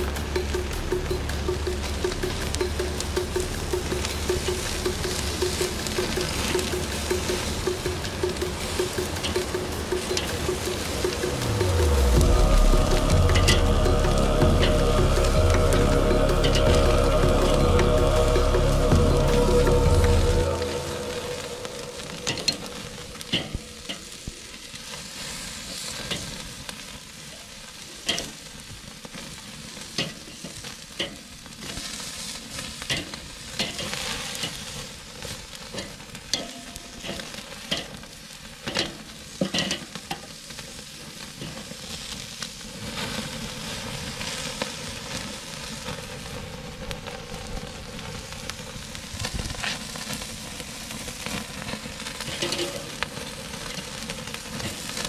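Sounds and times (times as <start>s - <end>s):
steaks sizzling on a grill: 0.0s - 11.4s, 21.2s - 55.0s.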